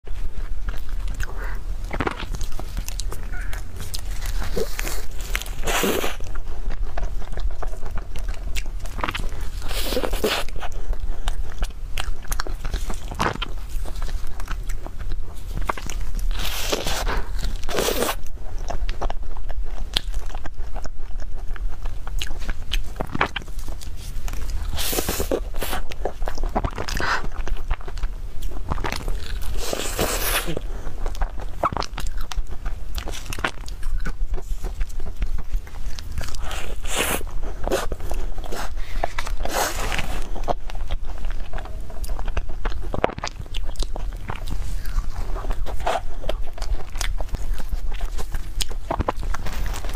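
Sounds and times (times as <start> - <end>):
low steady hum: 0.0 - 49.9
pastry crust crunching: 0.1 - 49.9
wet chewing: 0.1 - 49.9.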